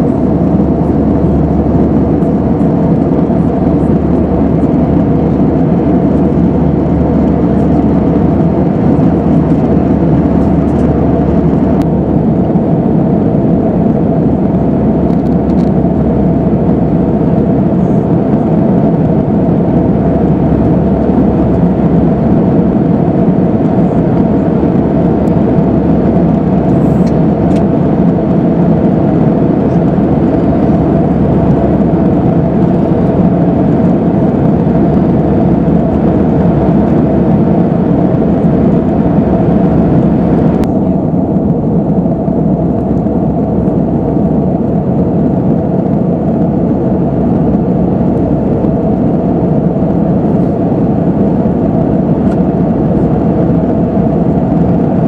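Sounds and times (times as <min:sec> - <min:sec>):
low engine hum: 0:00.0 - 0:55.0
rush of air in cabin: 0:00.0 - 0:55.0.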